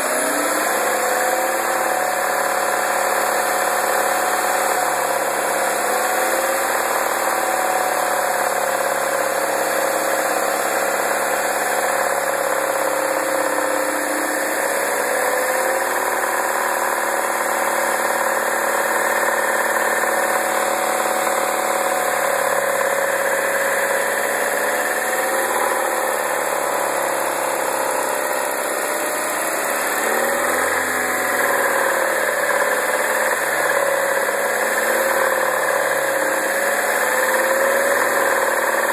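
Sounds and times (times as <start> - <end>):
car engine idling: 0.0 - 38.9
engine rattle: 0.0 - 38.9.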